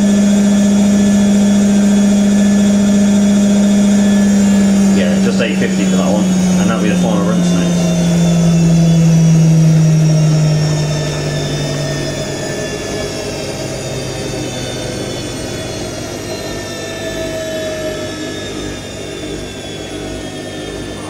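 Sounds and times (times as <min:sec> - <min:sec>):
washing machine winding down: 0:00.0 - 0:21.0.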